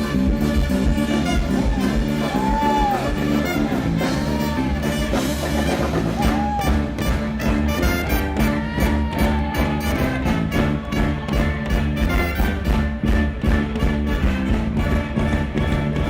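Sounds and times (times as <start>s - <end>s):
horn line: 0.0s - 16.0s
live band playing instrumental: 0.0s - 16.0s
steady drum beat: 0.0s - 16.0s.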